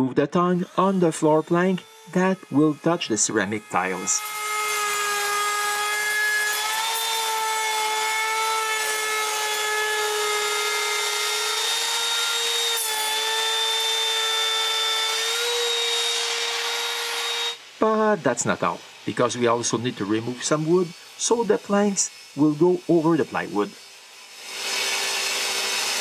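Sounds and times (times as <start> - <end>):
power tool cutting wood: 0.0 - 26.0.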